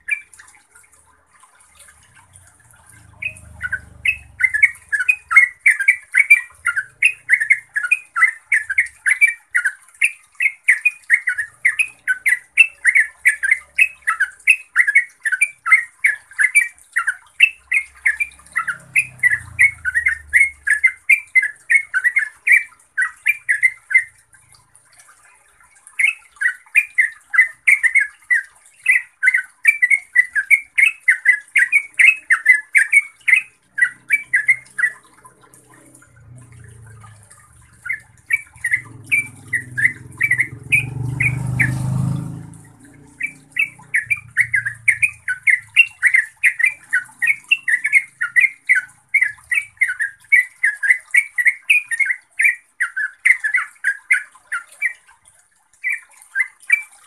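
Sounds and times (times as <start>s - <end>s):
bird chattering song: 0.0s - 0.4s, 2.4s - 24.3s, 25.9s - 55.1s, 55.8s - 56.9s.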